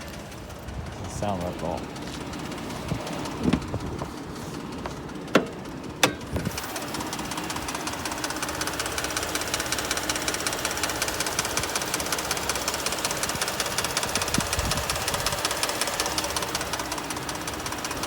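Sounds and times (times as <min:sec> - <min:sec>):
engine knocking rattle: 0:00.0 - 0:18.0.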